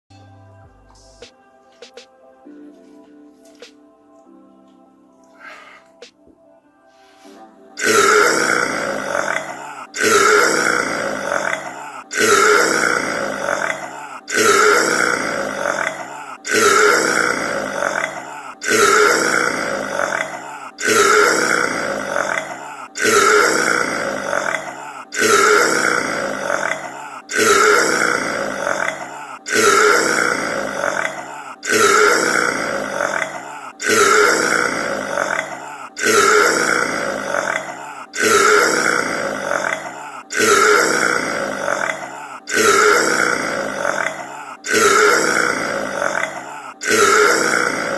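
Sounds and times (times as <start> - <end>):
man burping loudly: 7.8 - 47.9.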